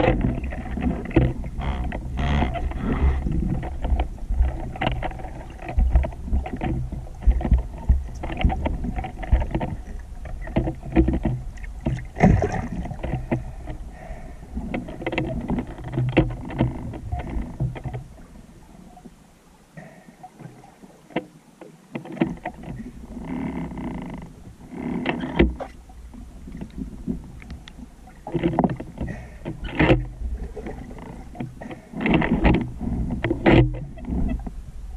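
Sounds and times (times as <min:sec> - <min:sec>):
underwater clicks and knocks: 0:00.0 - 0:18.4, 0:19.8 - 0:34.6
underwater low rumble: 0:00.0 - 0:34.9.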